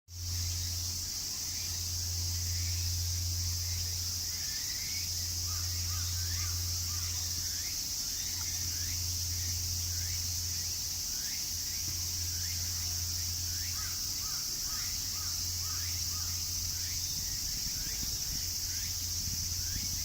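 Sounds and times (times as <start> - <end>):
insects droning: 0.1 - 20.0
low steady hum: 0.1 - 20.0
bird chirps: 0.3 - 18.1.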